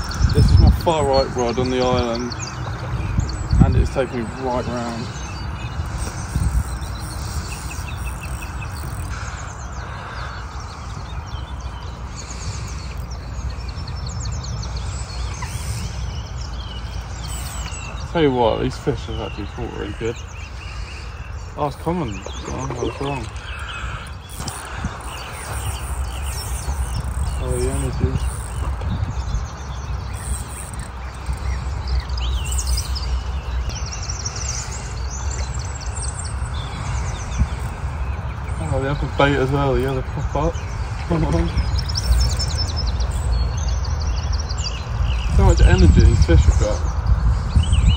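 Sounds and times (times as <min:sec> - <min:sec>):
birds chirping: 0:00.0 - 0:47.9
wind rumble on microphone: 0:00.0 - 0:47.9.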